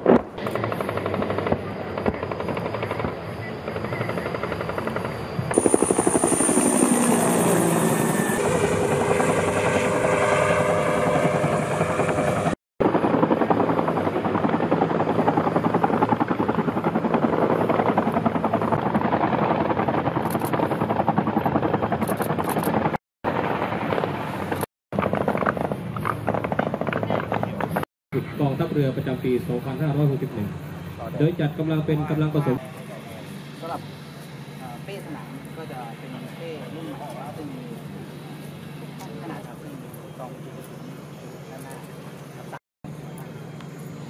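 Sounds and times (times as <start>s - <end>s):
turbine whine: 0.0s - 20.6s, 24.2s - 44.0s
helicopter rotor beat: 0.0s - 44.0s.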